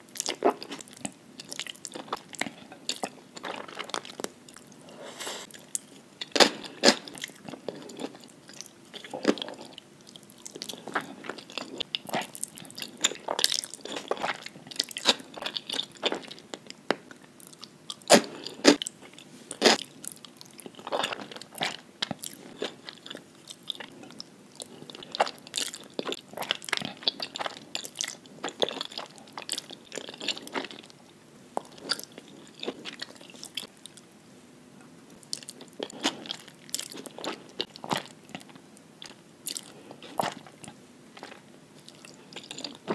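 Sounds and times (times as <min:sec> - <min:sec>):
wet chewing of noodles: 0:00.1 - 0:31.0, 0:31.6 - 0:34.0, 0:35.2 - 0:42.9
crisp crunching of chewing: 0:05.4 - 0:31.0, 0:31.6 - 0:33.7, 0:35.3 - 0:42.9.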